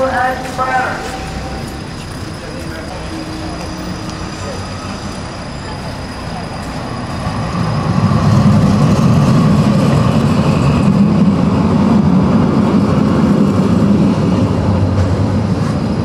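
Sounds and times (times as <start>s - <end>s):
moving vehicle rumble: 0.0s - 16.0s.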